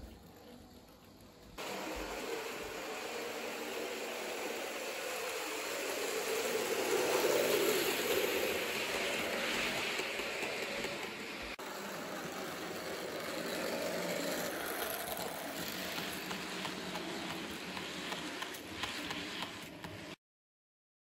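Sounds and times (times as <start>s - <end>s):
model train wheels rumbling on rails: 0.0s - 20.2s
wheels clicking over rail joints: 0.0s - 20.2s.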